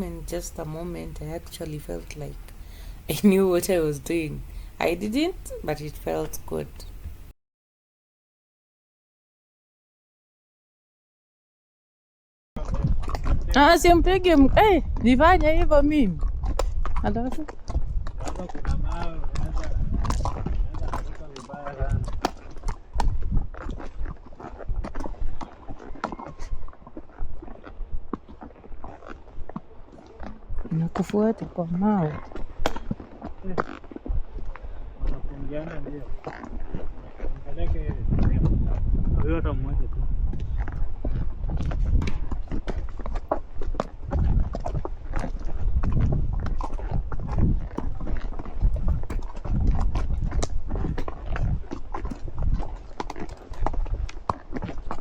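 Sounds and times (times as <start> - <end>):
horse hooves clopping on stones: 0.0 - 2.5, 3.1 - 6.9, 12.6 - 39.4, 40.2 - 55.0.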